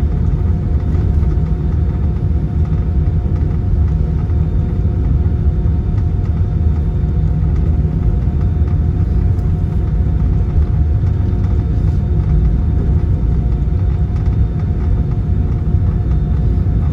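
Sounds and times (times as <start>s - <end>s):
airliner cabin rumble: 0.0s - 16.9s
jet engines idling hum: 0.0s - 16.9s.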